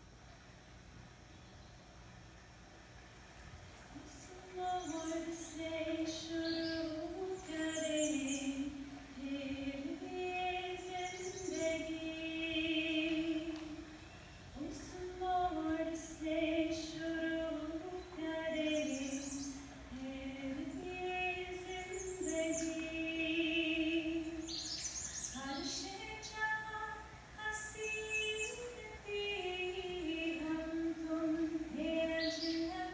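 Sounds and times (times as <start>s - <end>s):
woman singing unaccompanied: 3.9s - 32.9s.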